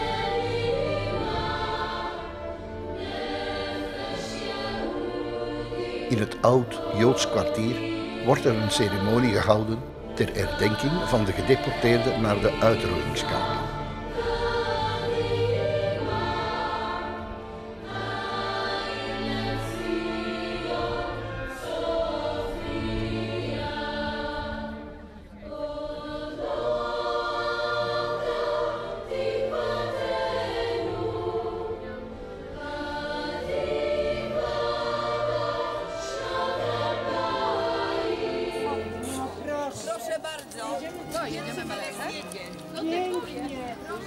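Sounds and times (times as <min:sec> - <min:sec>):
choir singing: 0:00.0 - 0:44.0.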